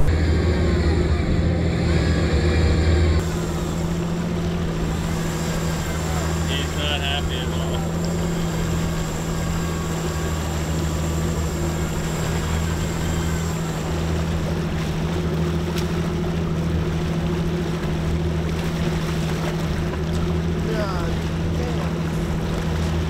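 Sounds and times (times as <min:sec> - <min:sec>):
outboard motor running: 0:00.0 - 0:23.0
water wash: 0:00.0 - 0:23.0
wind: 0:00.0 - 0:23.0.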